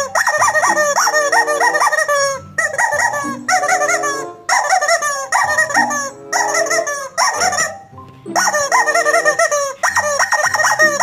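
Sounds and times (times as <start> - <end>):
playful music with squeaky chirps: 0.0 - 11.0.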